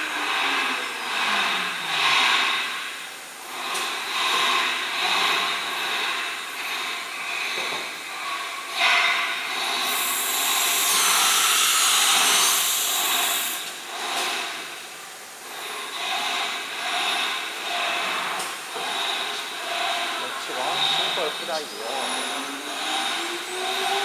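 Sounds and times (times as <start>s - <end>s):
loud hiss: 0.0s - 24.0s
router motors whirring: 3.4s - 24.0s.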